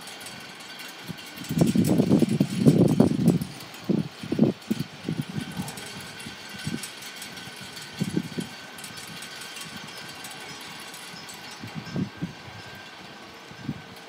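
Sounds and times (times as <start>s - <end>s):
wind buffeting microphone: 0.4s - 14.0s.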